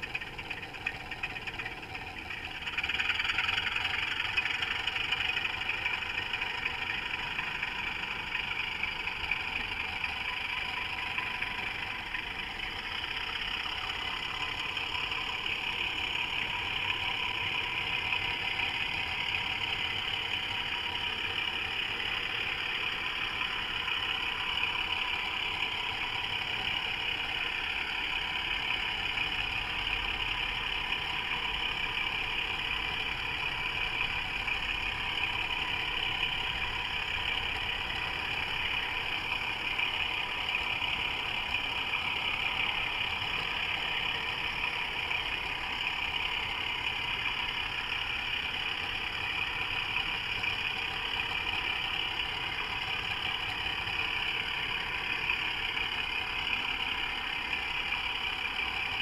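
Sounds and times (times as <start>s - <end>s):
model locomotive droning: 0.0s - 59.0s.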